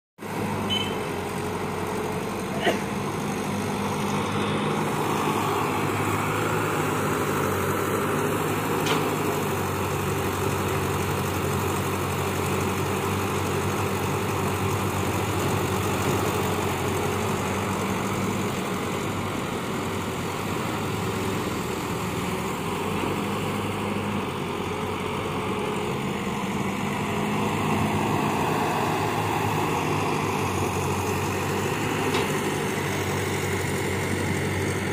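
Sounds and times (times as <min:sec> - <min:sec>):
diesel excavator engine running: 0:00.2 - 0:34.9.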